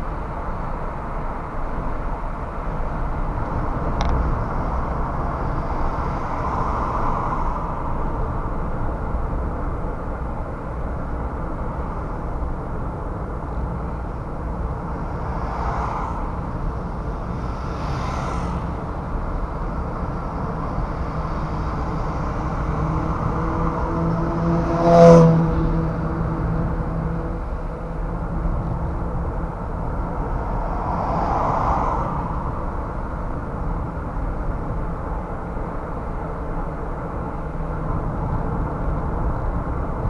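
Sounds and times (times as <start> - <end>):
car driving in traffic: 0.0 - 40.0
vehicles passing: 0.0 - 40.0.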